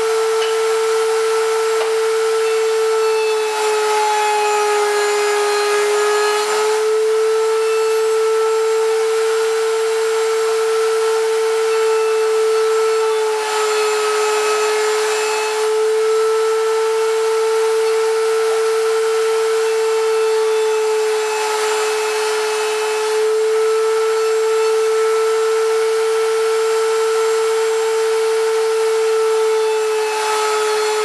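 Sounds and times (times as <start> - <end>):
router whining: 0.0 - 31.0.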